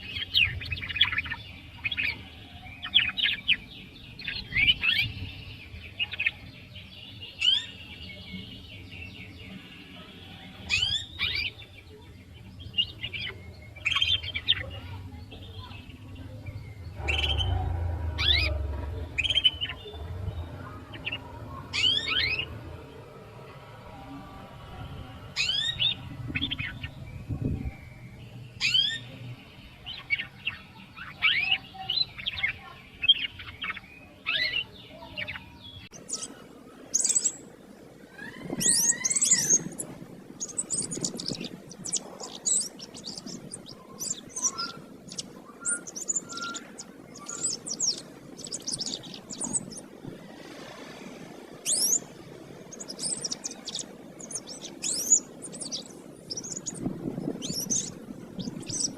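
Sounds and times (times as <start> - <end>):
canary singing: 0.0 - 22.6, 25.4 - 27.0, 29.9 - 58.9.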